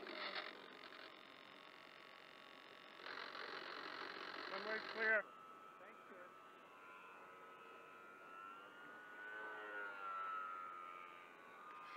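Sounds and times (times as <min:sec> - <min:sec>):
faint motor whine: 0:00.0 - 0:11.9.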